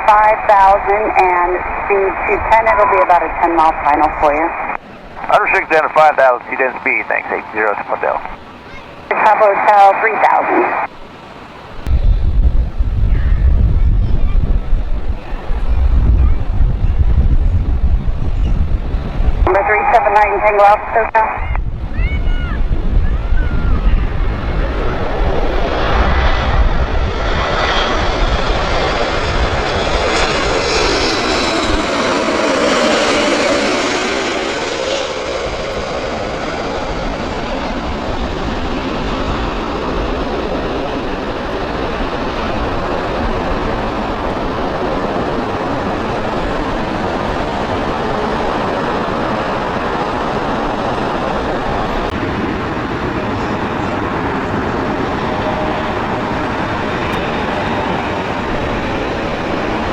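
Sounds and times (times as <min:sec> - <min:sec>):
jet airliner passing overhead: 0:00.0 - 0:59.9.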